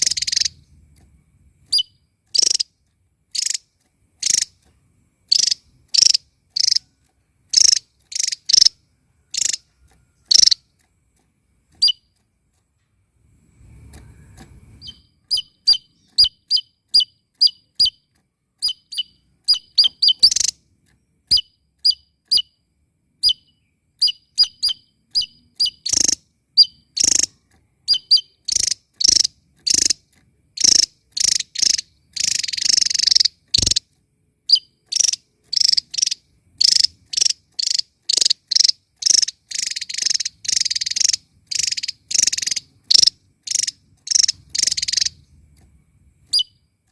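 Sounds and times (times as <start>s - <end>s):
songbird chirping: 0.0s - 46.9s.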